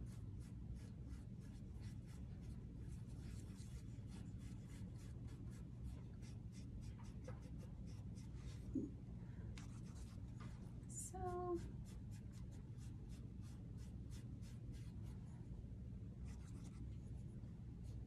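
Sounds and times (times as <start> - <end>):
paintbrush strokes on board: 0.0 - 8.8, 9.6 - 15.3, 16.2 - 18.0
low room hum: 0.0 - 18.0.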